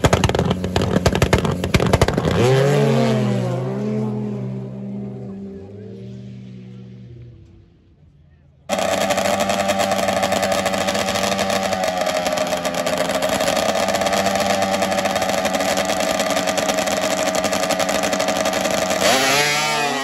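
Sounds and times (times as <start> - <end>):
snowmobile engines revving sharply: 0.0 - 7.4, 8.7 - 20.0
snowmobile engines running: 0.0 - 20.0.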